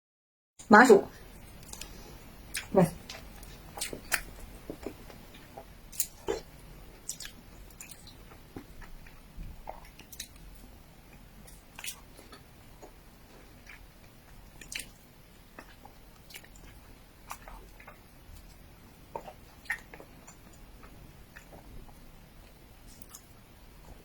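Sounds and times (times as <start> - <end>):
mouth chewing sticky food: 1.2 - 24.0.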